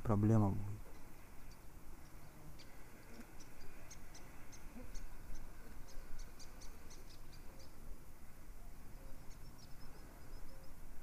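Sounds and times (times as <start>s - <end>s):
small bird chirping: 0.8s - 7.8s, 9.0s - 10.8s.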